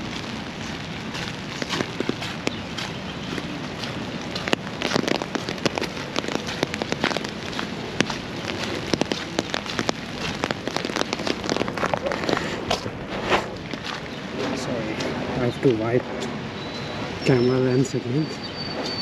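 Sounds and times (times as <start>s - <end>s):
raindrops tapping: 0.0s - 15.8s
rain hiss: 0.0s - 18.9s.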